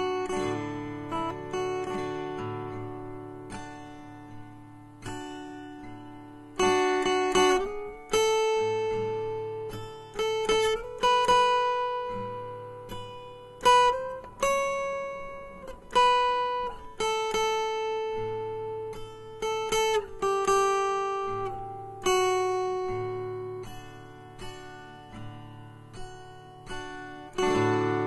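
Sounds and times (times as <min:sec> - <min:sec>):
acoustic guitar slow melody: 0:00.0 - 0:28.0.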